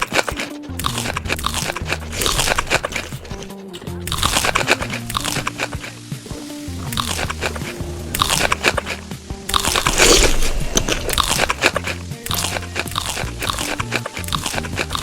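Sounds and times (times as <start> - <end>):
background music: 0.0 - 15.0
crunchy food being chewed: 0.0 - 15.0.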